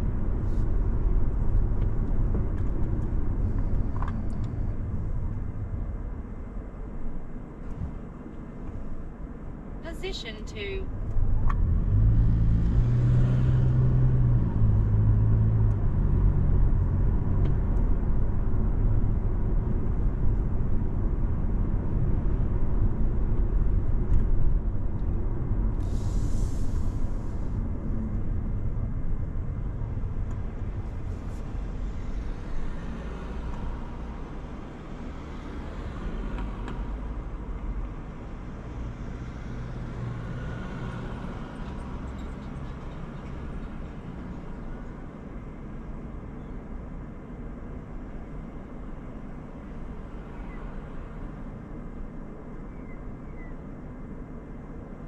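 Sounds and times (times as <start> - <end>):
car engine and tyres on road: 0.0 - 55.0.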